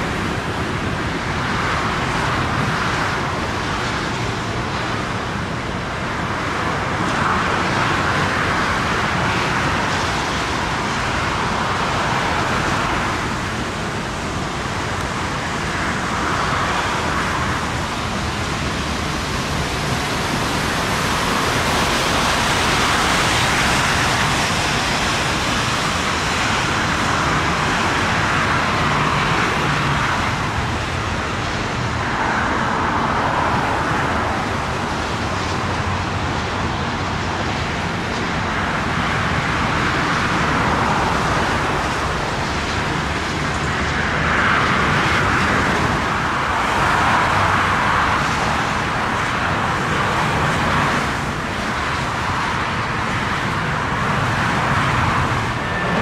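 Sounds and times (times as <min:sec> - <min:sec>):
motorway traffic: 0:00.0 - 0:56.0
vehicles passing: 0:00.0 - 0:56.0.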